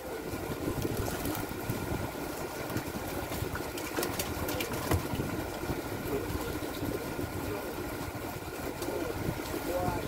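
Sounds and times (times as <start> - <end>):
boat engine rumbling: 0.0 - 10.0.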